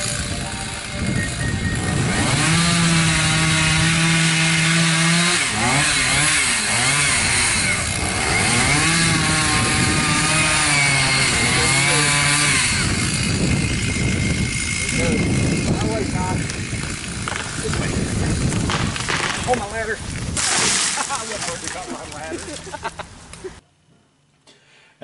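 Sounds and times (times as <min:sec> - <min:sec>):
chainsaw cutting tree trunk: 0:00.0 - 0:21.2.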